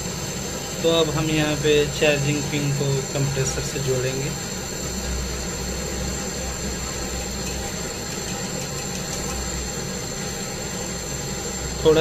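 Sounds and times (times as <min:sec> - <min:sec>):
gas torch flame roaring: 0:00.0 - 0:12.0.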